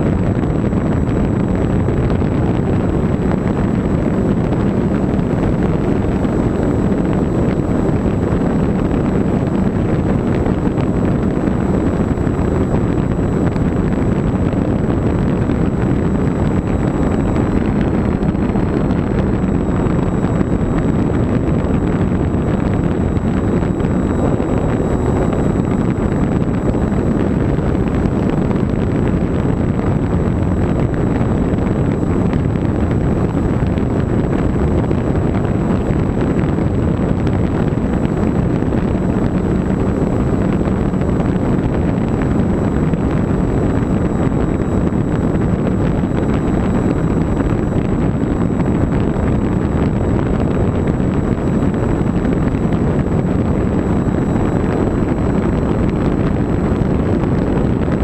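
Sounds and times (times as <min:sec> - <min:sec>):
faint high whine: 0:00.0 - 0:58.0
loud wind rush: 0:00.0 - 0:58.0
plane motor and propeller: 0:00.0 - 0:58.0.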